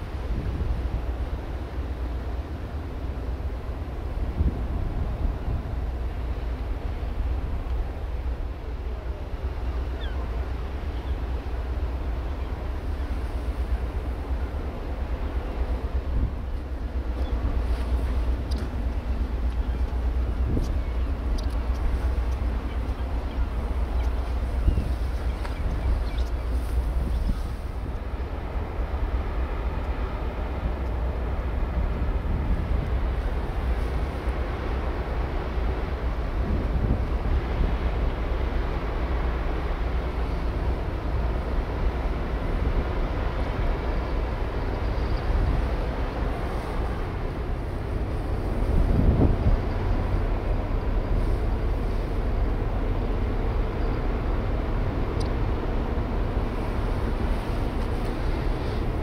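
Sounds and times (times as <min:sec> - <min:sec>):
ferry engine rumble: 0:00.0 - 0:59.0.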